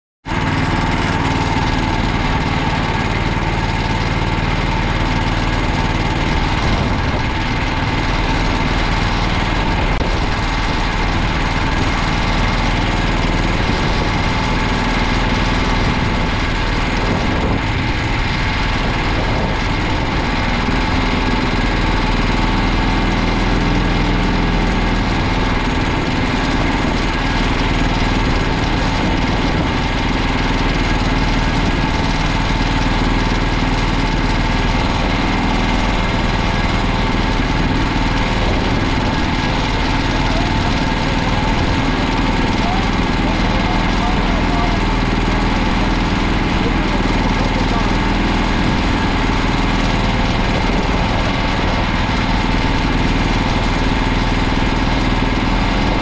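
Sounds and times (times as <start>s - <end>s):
small engine idling: 0.2s - 56.0s.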